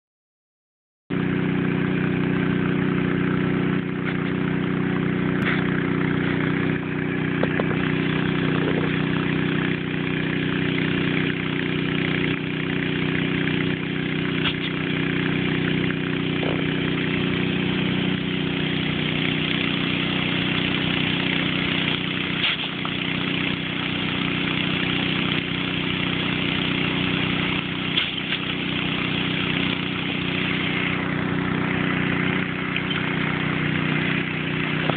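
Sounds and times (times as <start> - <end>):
engine humming: 1.1 - 34.9
water jet hissing from hose: 5.4 - 34.9.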